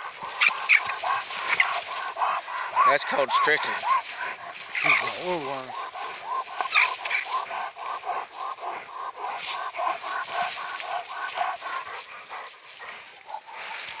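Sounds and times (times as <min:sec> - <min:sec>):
dogs biting and shaking animal: 0:00.0 - 0:14.0.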